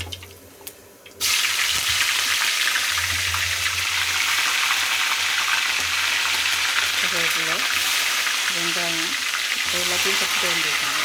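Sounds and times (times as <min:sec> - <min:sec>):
vegetables sizzling in hot oil: 0:01.2 - 0:11.0.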